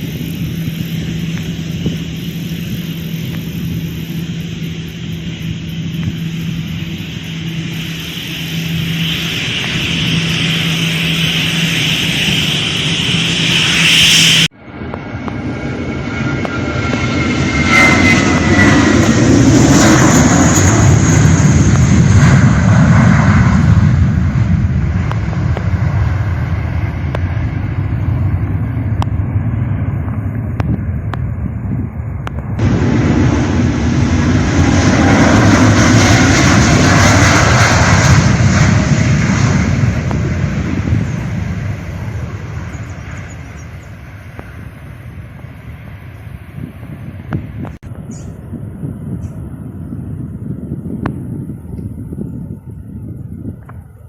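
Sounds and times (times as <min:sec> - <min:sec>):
high engine whine: 0:00.0 - 0:54.0
jet engines passing by: 0:00.0 - 0:54.0.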